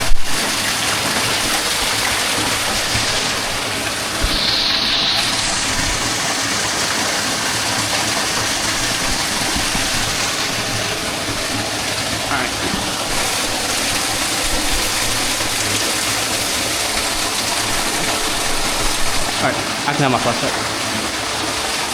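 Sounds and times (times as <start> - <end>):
water rushing: 0.0 - 21.9.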